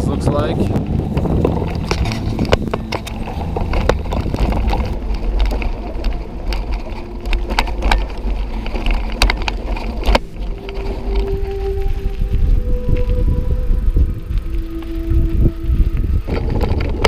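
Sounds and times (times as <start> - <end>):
bicycle rattling on rocky trail: 0.0 - 17.0.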